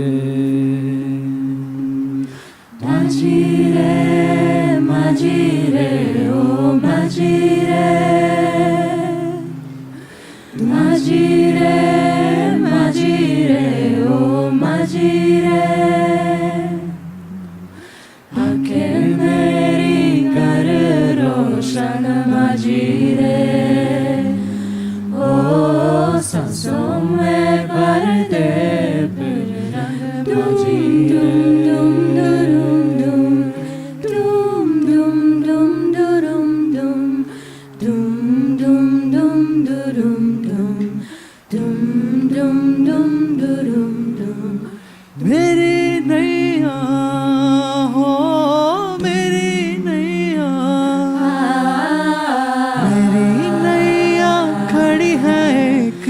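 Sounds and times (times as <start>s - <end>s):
a cappella group singing: 0.0s - 56.0s.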